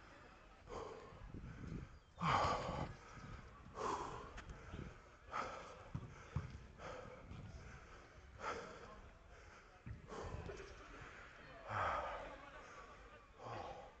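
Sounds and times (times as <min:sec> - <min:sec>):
heavy breathing: 0:00.6 - 0:14.0.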